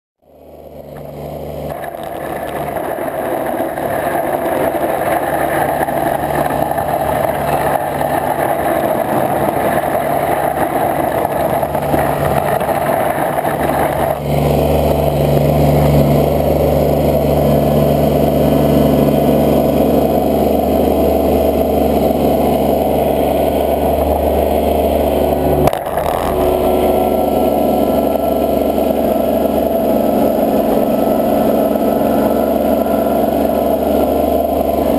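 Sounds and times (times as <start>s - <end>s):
snowplow engine running: 0.2s - 34.9s.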